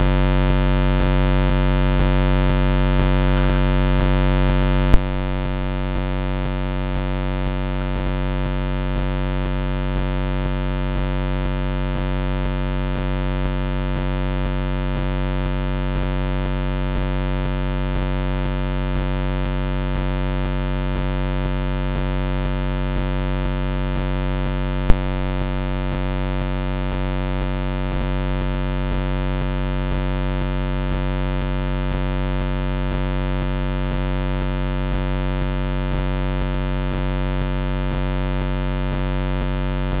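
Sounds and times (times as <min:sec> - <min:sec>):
electrical buzz with high tones: 0:00.0 - 0:40.0.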